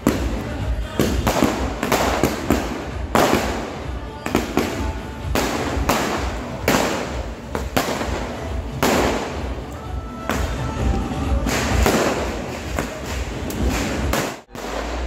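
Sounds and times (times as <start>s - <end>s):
fireworks banging with echoes: 0.0s - 15.0s.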